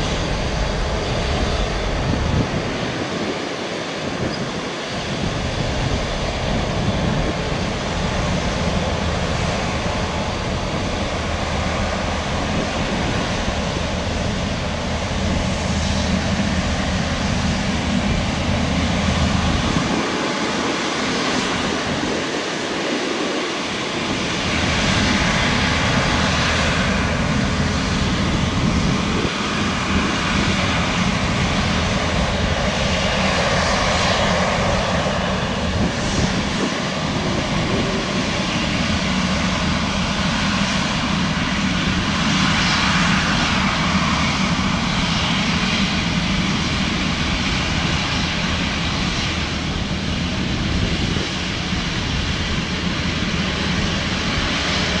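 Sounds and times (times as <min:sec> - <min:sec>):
jet engines at low power: 0:00.0 - 0:55.0.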